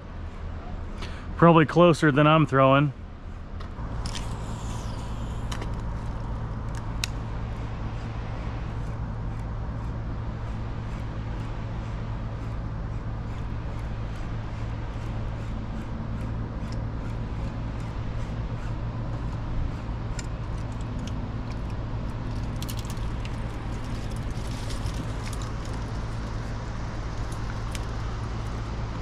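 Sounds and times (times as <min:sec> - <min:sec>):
low motor drone: 0:00.0 - 0:29.0.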